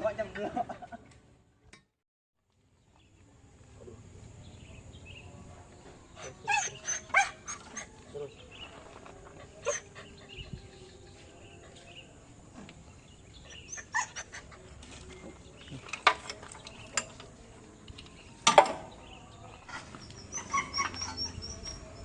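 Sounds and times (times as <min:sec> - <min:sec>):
birds chirping: 0:02.7 - 0:22.0.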